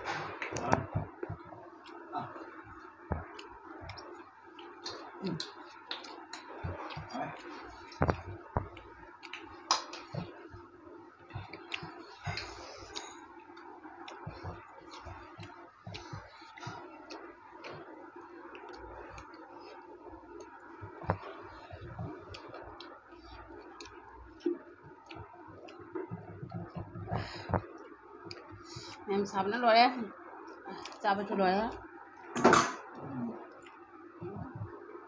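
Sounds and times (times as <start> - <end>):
people chewing: 0.0 - 29.1, 30.2 - 34.9
low steady hum: 0.0 - 35.0.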